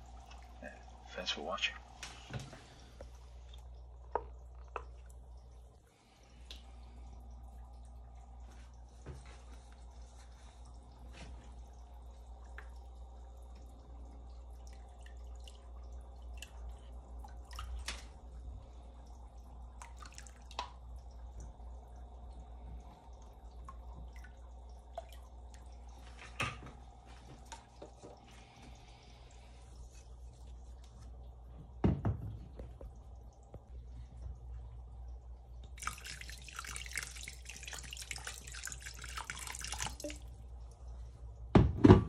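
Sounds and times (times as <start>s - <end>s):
water dripping and trickling: 0.0s - 41.6s
steady low hum: 0.0s - 42.0s.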